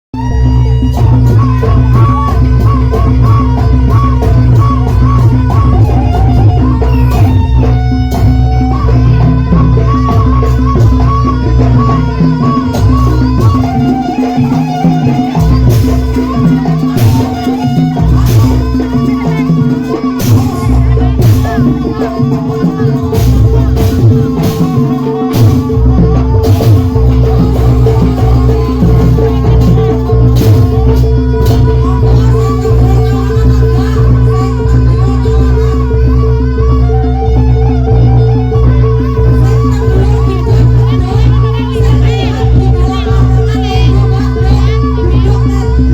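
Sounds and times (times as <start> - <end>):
quick percussion stroke: 0.2 - 37.3
deep low beats: 0.2 - 45.9.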